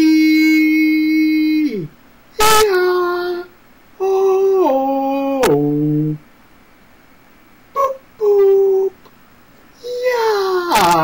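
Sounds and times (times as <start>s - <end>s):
man making vocal noises: 0.0s - 6.3s, 7.7s - 9.1s, 9.8s - 11.0s.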